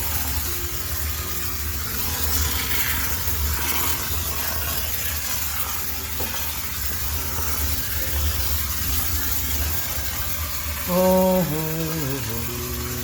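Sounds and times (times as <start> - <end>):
steam sterilizer humming and hissing: 0.0 - 13.0.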